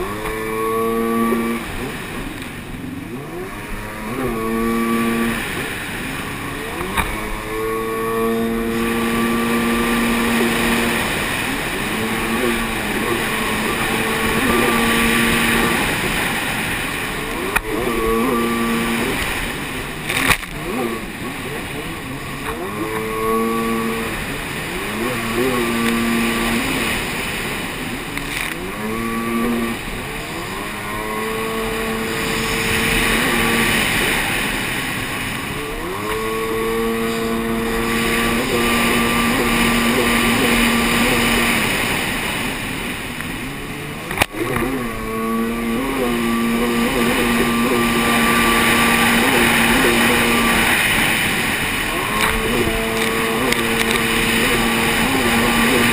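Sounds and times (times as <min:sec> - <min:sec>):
jet ski engine revving: 0:00.0 - 0:55.9
water rushing past hull: 0:00.0 - 0:55.9.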